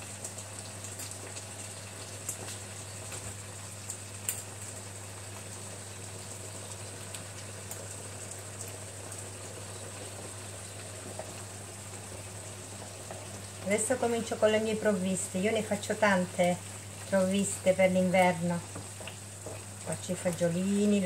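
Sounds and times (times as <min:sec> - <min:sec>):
sauce simmering and sizzling: 0:00.0 - 0:21.0.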